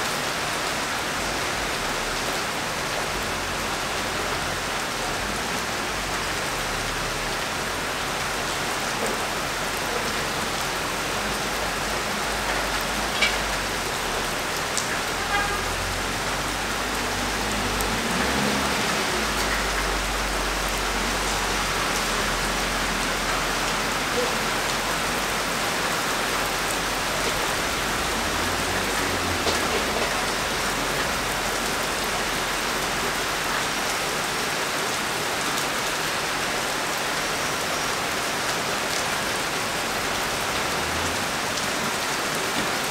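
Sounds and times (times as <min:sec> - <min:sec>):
rain falling on roofs: 0:00.0 - 0:42.9.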